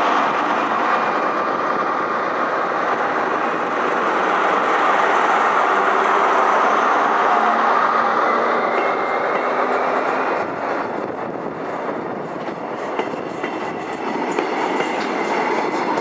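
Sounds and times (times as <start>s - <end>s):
diesel locomotives passing: 0.0s - 16.0s.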